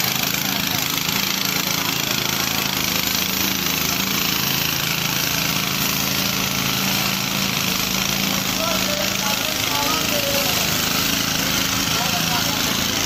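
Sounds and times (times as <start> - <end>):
small engine running: 0.0 - 13.0
water jetting from hose: 0.0 - 13.0.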